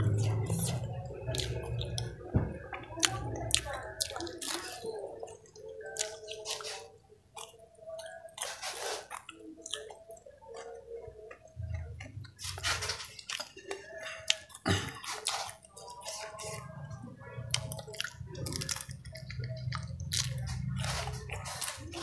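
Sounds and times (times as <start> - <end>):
crunchy chewing: 0.0 - 2.1, 3.0 - 16.7, 17.4 - 22.0.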